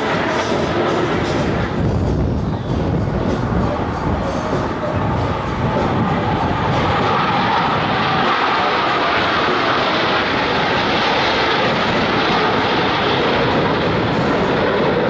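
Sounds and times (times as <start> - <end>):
jet engines flying by: 0.0 - 15.0.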